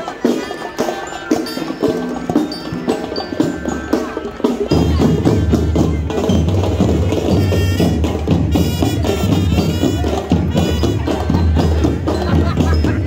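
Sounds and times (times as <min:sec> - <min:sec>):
crowd voices: 0:00.0 - 0:13.0
drum band playing: 0:00.0 - 0:13.0.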